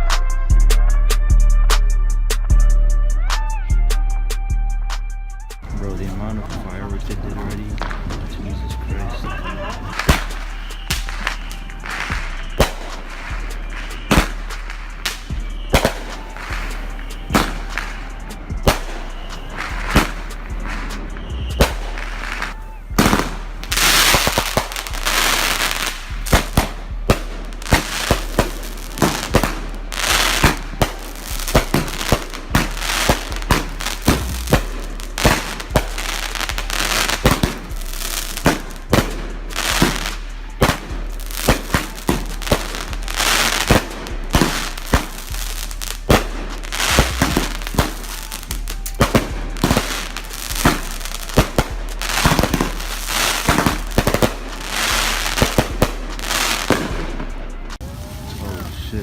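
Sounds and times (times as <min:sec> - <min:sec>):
fireworks crackling: 0:05.6 - 0:59.0
fireworks bangs and booms: 0:06.1 - 0:59.0.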